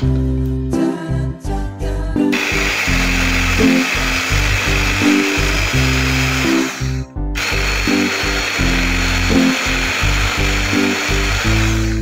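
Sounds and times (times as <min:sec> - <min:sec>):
background music: 0:00.0 - 0:12.0
electric chopper whirring: 0:02.3 - 0:12.0.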